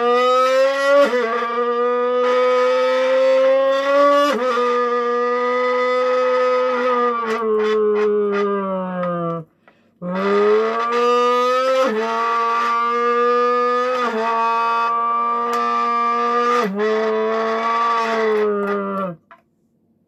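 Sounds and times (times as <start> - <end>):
mouth-blown buzz through a can: 0.0 - 19.3.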